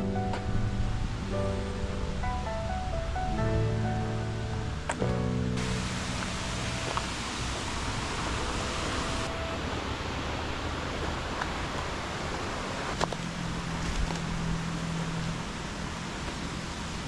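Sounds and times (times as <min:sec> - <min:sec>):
low hum: 0:00.0 - 0:17.0
steady rushing noise: 0:00.0 - 0:17.0.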